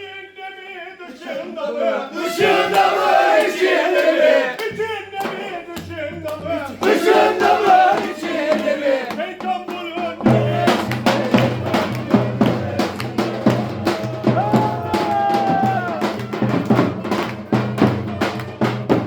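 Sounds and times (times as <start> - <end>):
group of voices chanting: 0.9 - 19.0
drum beating steady rhythm: 2.2 - 19.0
folk dance music: 2.2 - 19.0.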